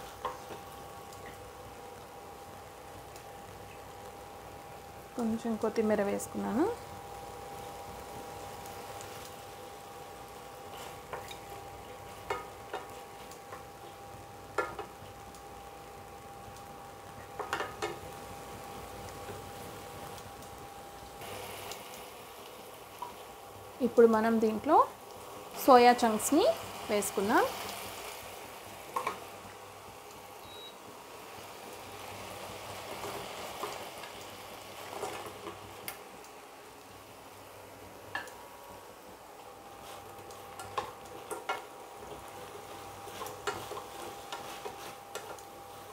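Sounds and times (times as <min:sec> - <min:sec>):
soft sizzle: 0:00.0 - 0:45.9.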